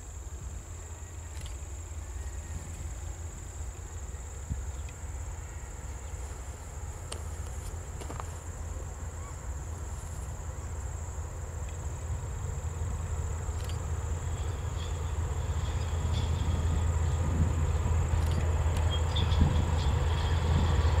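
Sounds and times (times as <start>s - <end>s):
freight train engine rumble: 0.0s - 21.0s.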